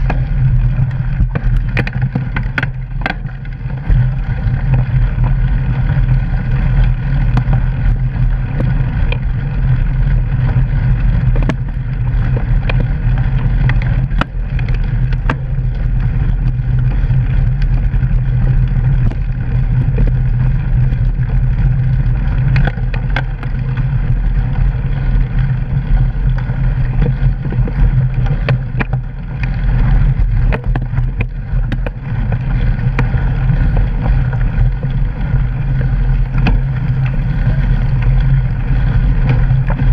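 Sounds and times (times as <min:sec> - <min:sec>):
bike clicks and rattles: 0:00.0 - 0:39.9
tyre and wind rumble: 0:00.0 - 0:39.9.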